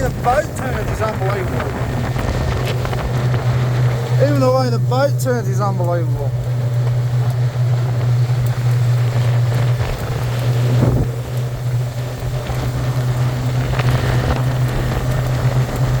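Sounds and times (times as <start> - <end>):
motorboat engine drone: 0.0 - 16.0
wind buffeting microphone: 0.0 - 16.0.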